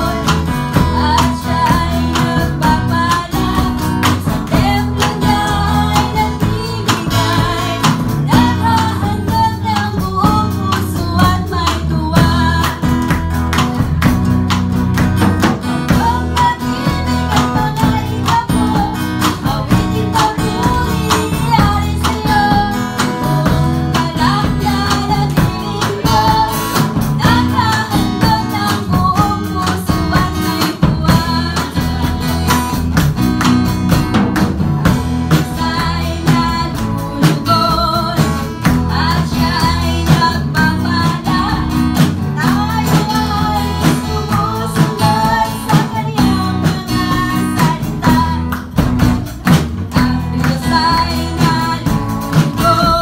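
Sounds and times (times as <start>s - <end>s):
woman singing into microphone: 0.0s - 13.3s, 15.9s - 32.9s, 35.2s - 53.0s
drum kit: 0.0s - 53.0s
electric bass: 0.0s - 53.0s
strummed acoustic guitar: 0.0s - 53.0s.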